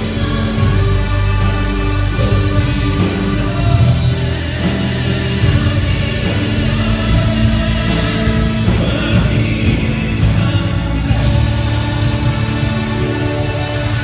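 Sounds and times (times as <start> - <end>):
backing singers: 0.0 - 14.0
keyboard accompaniment: 0.0 - 14.0
man singing into a microphone: 0.0 - 14.0.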